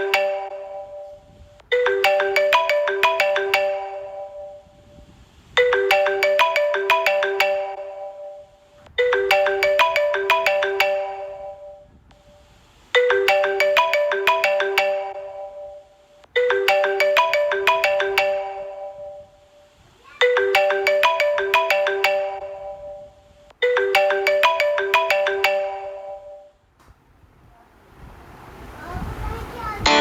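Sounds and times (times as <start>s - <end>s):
marimba-like phone ringtone: 0.0s - 26.6s.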